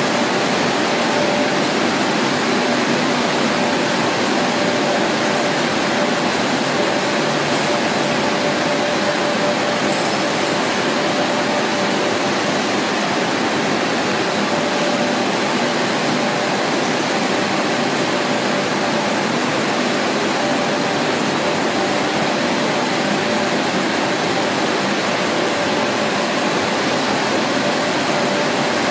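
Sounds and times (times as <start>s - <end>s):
machinery whirring: 0.0s - 28.9s.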